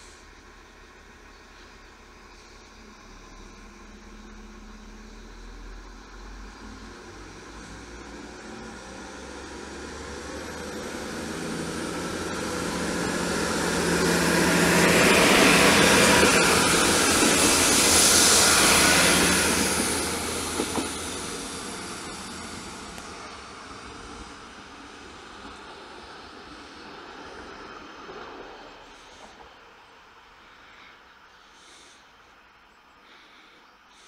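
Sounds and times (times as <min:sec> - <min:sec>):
train wheels on rails: 0:00.0 - 0:32.5
diesel railcar engine: 0:00.0 - 0:34.0.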